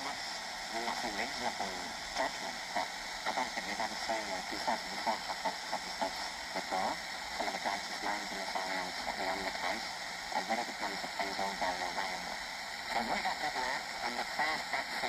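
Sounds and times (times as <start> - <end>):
faint man's voice on radio: 0.0 - 15.0
radio static hiss: 0.0 - 15.0.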